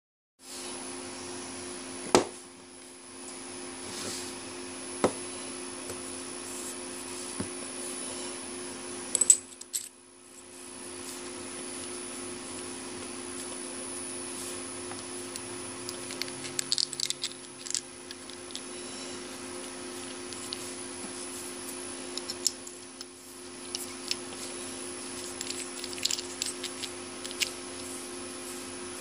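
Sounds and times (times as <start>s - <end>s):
steady background hum: 0.4s - 29.0s.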